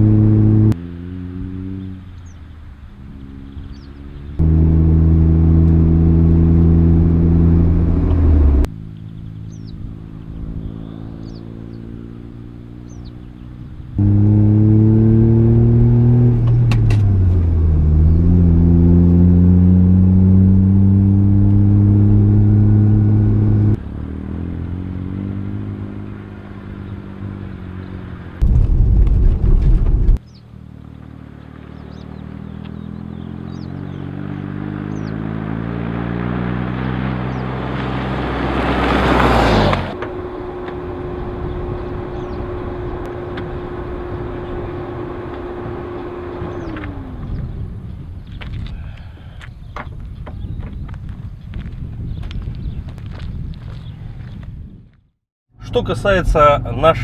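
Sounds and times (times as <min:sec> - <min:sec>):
car engine accelerating: 0:00.0 - 0:49.6, 0:55.6 - 0:57.0.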